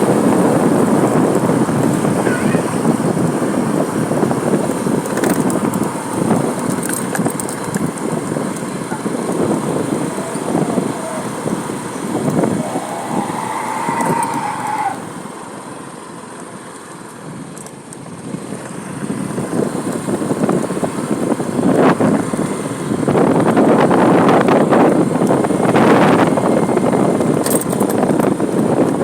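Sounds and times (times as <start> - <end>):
rumble of passing traffic: 0.0 - 29.0
vehicle engines: 0.0 - 29.0.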